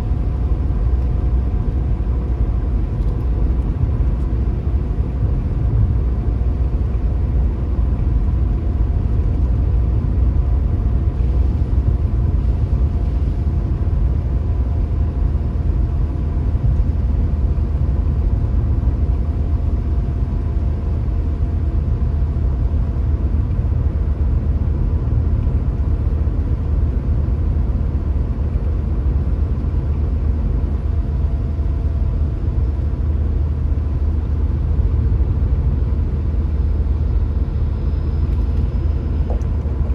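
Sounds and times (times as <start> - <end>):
car road and engine rumble: 0.0 - 39.9
faint steady whine: 0.0 - 39.9.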